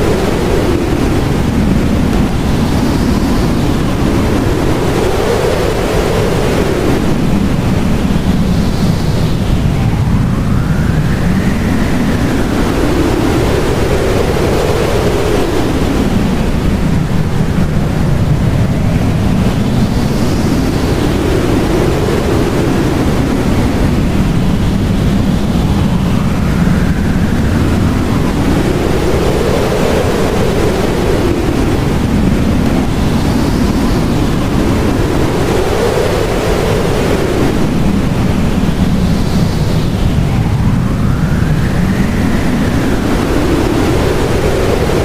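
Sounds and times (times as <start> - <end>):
howling blizzard wind: 0.0 - 45.0.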